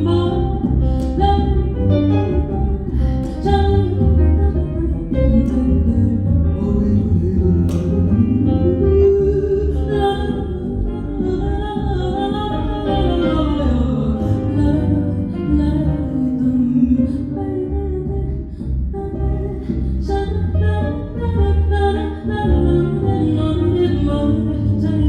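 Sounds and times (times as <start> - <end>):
low instrumental accompaniment: 0.0 - 25.0
woman singing: 0.0 - 25.0.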